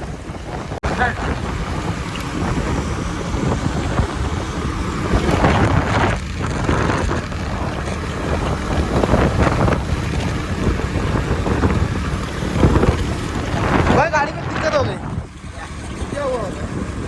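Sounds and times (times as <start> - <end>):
motorcycle engine and road rumble: 0.0 - 17.0
wind buffeting microphone: 0.0 - 17.0.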